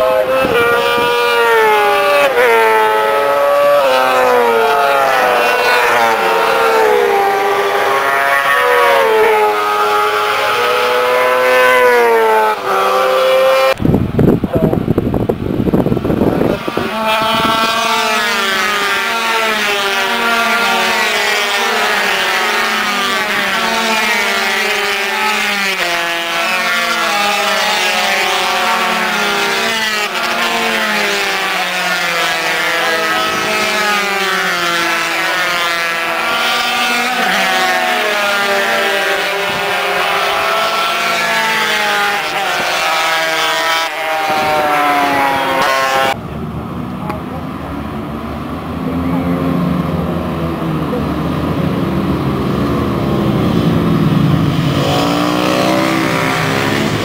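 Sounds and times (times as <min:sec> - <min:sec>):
racing motorcycles passing: 0:00.0 - 0:57.0.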